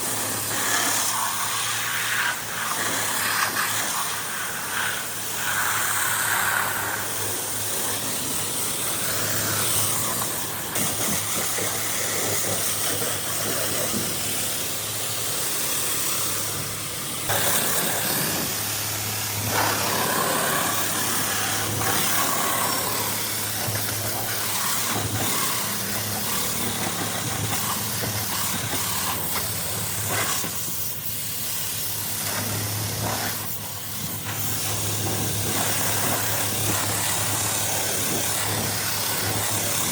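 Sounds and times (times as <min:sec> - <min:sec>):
pressure washer water spray hiss: 0:00.0 - 0:39.9.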